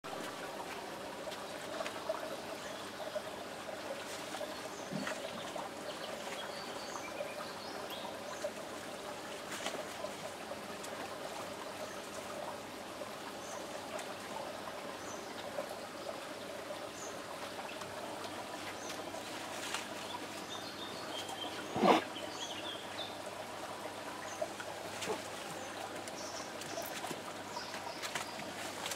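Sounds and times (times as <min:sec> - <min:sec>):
outdoor background hiss: 0:00.1 - 0:28.9.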